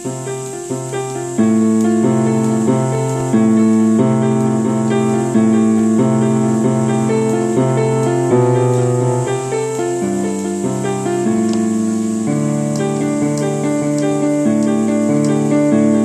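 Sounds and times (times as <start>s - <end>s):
slow piano-like chords: 0.0s - 16.0s.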